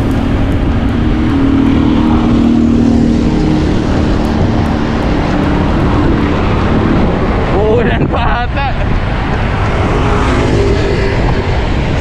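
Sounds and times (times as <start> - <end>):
vehicle engine humming: 0.0 - 12.0
wind rumbling on microphone: 0.0 - 12.0.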